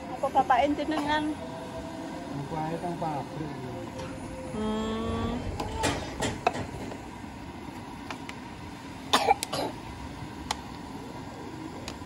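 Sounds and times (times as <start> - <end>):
steady background rush: 0.0 - 9.7.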